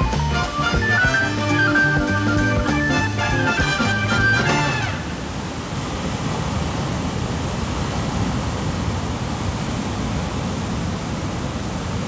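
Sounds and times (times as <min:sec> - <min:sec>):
heavy ocean surf: 0:00.0 - 0:12.0.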